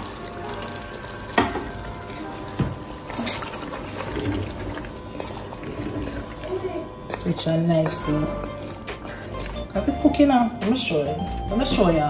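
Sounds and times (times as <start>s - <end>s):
liquid sloshing: 0.0s - 10.2s
wooden spoon stirring in a pot: 0.0s - 10.9s.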